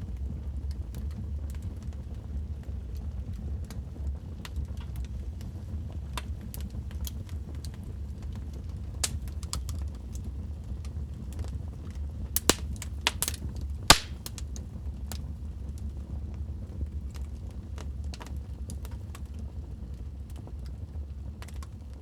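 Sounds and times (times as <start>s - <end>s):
wood fire crackling: 0.7s - 22.0s.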